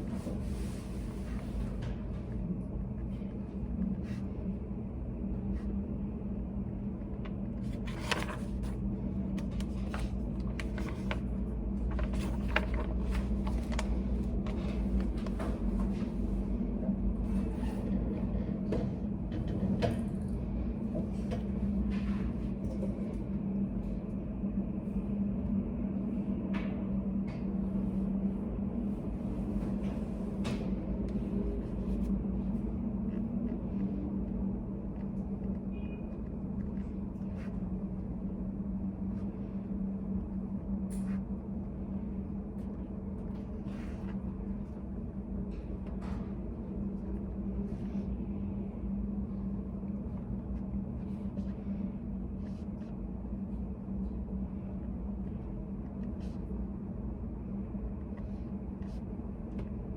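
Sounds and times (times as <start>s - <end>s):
low hum of room ambience: 0.0s - 59.9s.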